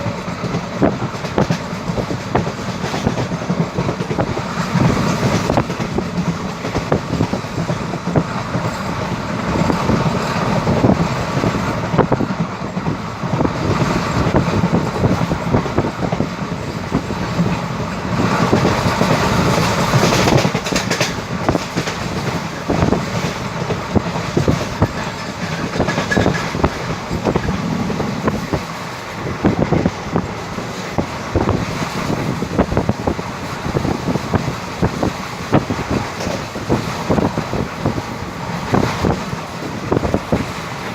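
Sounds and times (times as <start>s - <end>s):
train rumbling past: 0.0s - 40.9s
wheels clattering on track: 0.0s - 40.9s.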